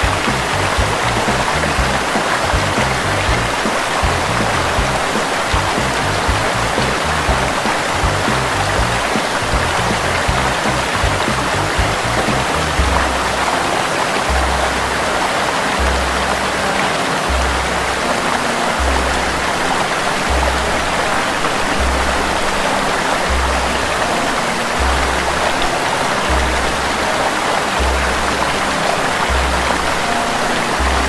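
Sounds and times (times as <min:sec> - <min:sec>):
background music with slow bass: 0:00.0 - 0:31.0
water rushing over rocks: 0:00.0 - 0:31.0.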